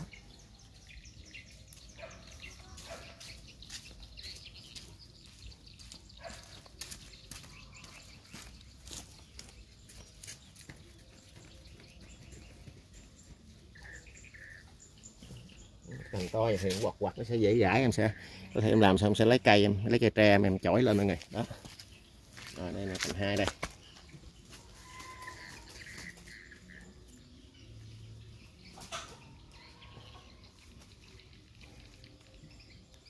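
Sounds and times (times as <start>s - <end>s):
faint bird chirping: 0.0s - 33.0s.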